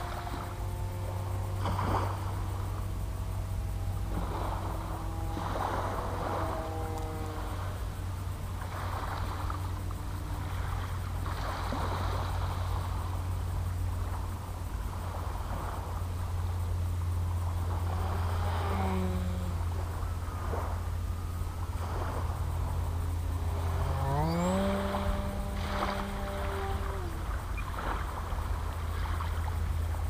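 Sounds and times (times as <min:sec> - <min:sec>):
propeller aircraft engine drone: 0:00.0 - 0:30.0.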